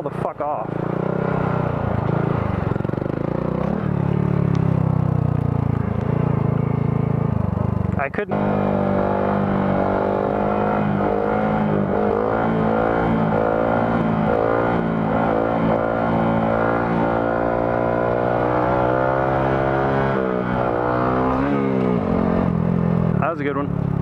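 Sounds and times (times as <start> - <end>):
motorcycle engine at steady revs: 0.0 - 24.0.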